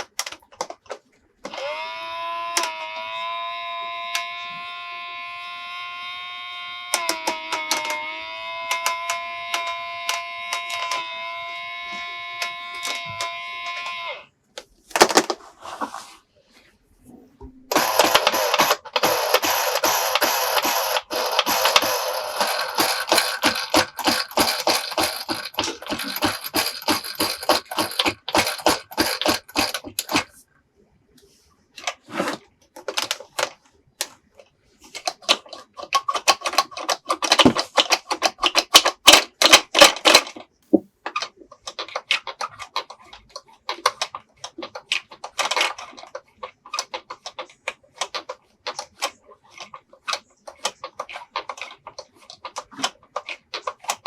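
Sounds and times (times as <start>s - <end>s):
plastic toy pieces clicking: 0.0s - 1.7s, 2.4s - 4.5s, 6.8s - 15.4s, 17.7s - 30.4s, 31.8s - 34.2s, 34.9s - 54.0s.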